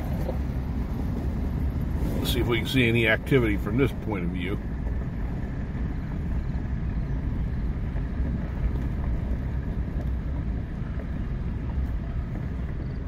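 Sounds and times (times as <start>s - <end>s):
vehicle engine and tyre rumble: 0.0s - 13.0s.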